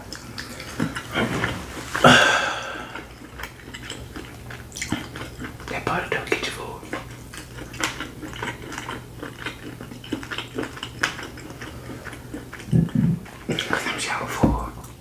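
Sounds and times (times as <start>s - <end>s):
wet chewing and lip-smacking: 0.0s - 2.0s, 2.6s - 14.0s.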